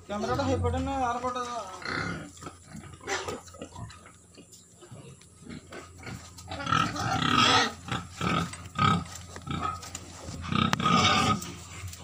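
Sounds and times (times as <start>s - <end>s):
pigs squealing: 0.0s - 4.4s, 5.4s - 11.8s.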